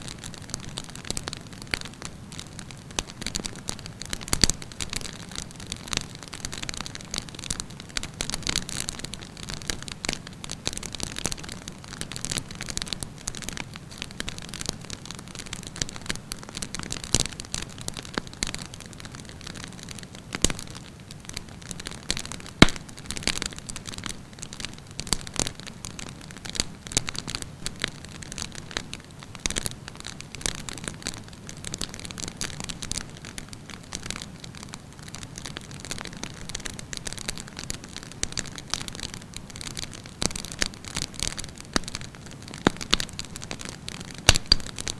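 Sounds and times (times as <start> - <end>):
campfire crackling: 0.1 - 44.9
fire popping: 0.1 - 44.9.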